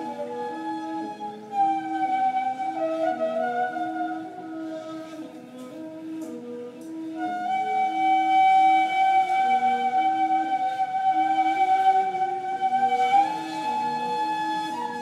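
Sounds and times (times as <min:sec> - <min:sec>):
reed flute long high note: 0:00.0 - 0:15.0
reed flute short low notes: 0:00.0 - 0:15.0.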